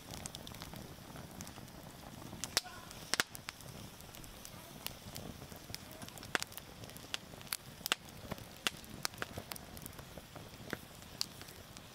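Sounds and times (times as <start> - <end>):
campfire crackling and popping: 0.0 - 11.9
low rush of flame: 0.0 - 11.9.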